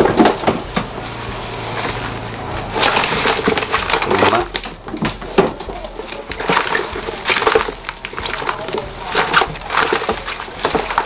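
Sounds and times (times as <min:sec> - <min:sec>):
rummaging in plastic basket: 0:00.0 - 0:11.0.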